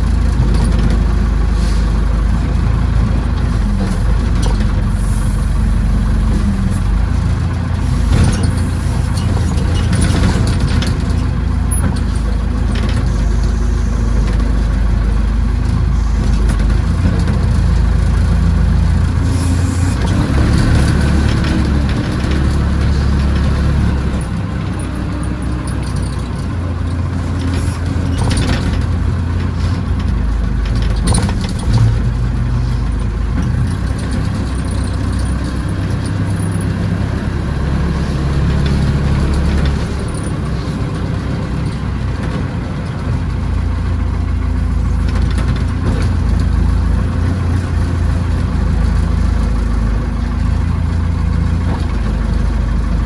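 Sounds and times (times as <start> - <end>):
backhoe engine running: 0.0 - 53.0.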